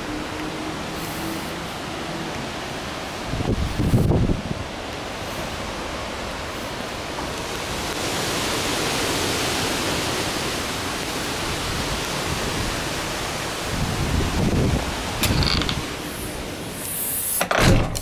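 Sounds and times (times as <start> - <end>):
storm wind gusting through trees: 0.0 - 18.0.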